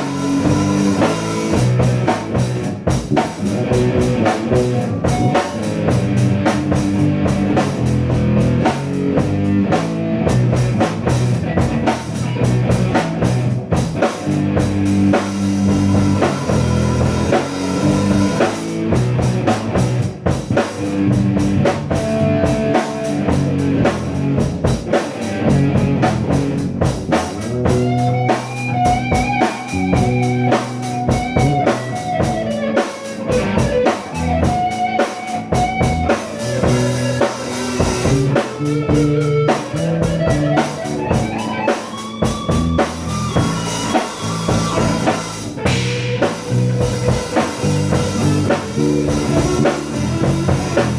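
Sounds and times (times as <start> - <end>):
bending guitar lead line: 0.0 - 50.9
drum kit beat: 0.0 - 50.9
electric guitar: 0.0 - 50.9.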